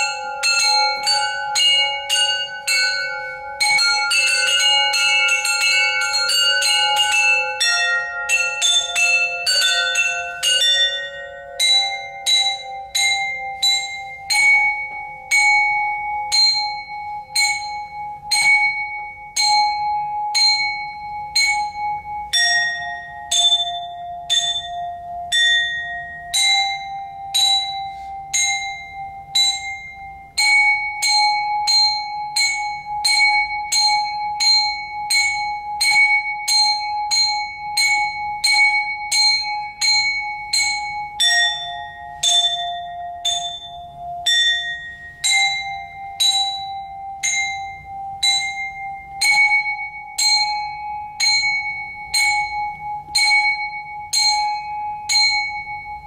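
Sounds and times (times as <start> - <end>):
pitched metal percussion ringing: 0.0 - 56.0.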